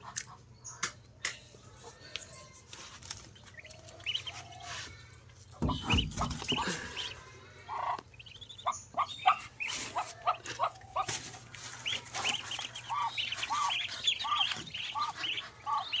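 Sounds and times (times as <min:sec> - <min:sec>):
poultry chirping and calling: 0:00.0 - 0:16.0.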